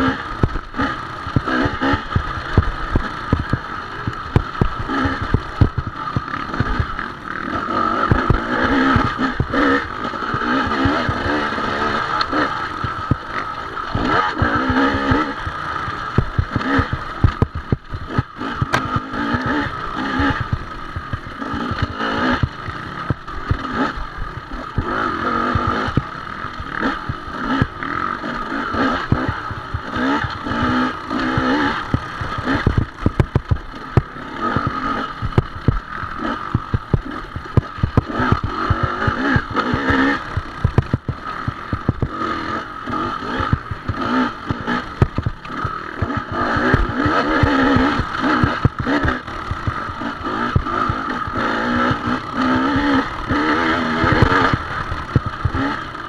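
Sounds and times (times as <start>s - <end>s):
dirt bike engine revving: 0.0s - 56.0s
bike knocking and clattering: 7.7s - 26.1s, 28.8s - 55.7s.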